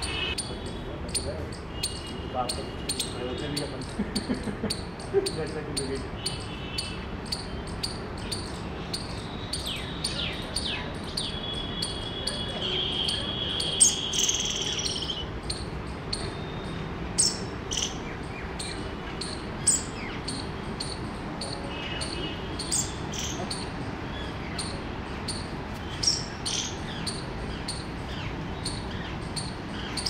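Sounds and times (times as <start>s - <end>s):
bird chirps: 0.0s - 30.0s.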